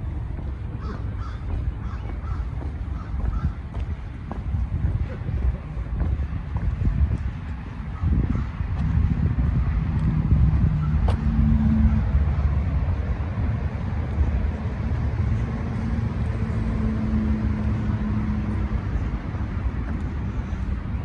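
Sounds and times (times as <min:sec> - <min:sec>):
faint engine hum: 0:00.0 - 0:21.0
traffic rumble: 0:00.0 - 0:21.0.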